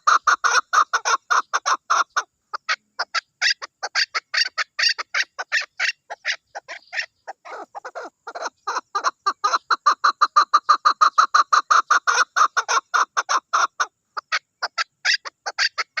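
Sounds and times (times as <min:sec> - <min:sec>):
partridge clucking calls: 0:00.0 - 0:16.0.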